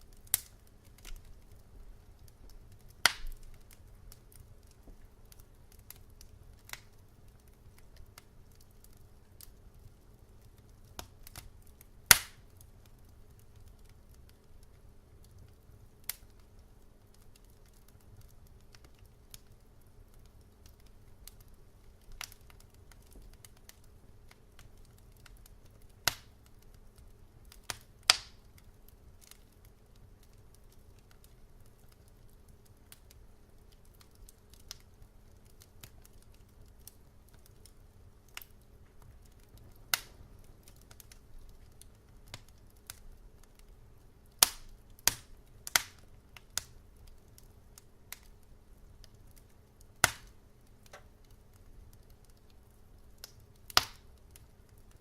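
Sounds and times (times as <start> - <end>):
faint low hum: 0.0 - 55.0
fire crackling and popping: 0.0 - 55.0.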